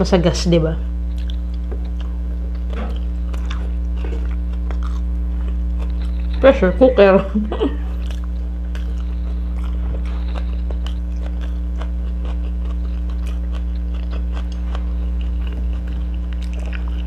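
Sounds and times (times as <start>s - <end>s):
steady low hum: 0.0s - 17.0s
person chewing with mouth clicks: 1.1s - 6.4s, 7.8s - 17.0s.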